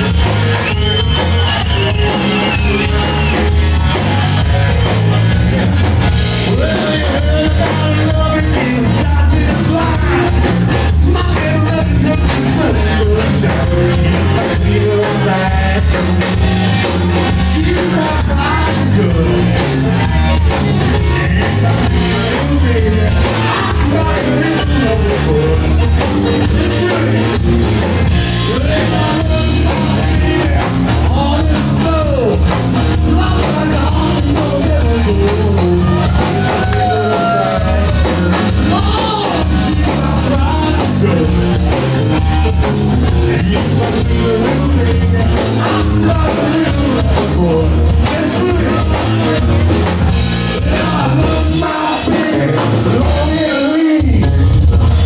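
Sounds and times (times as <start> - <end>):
blues rock band playing: 0.0 - 55.0
person singing: 6.3 - 16.3, 17.2 - 27.6, 28.3 - 49.3, 50.4 - 55.0.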